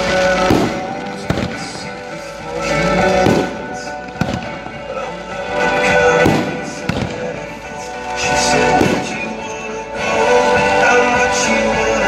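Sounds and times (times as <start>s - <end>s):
firework shells bursting: 0.0s - 9.8s
fireworks show music: 0.0s - 12.0s.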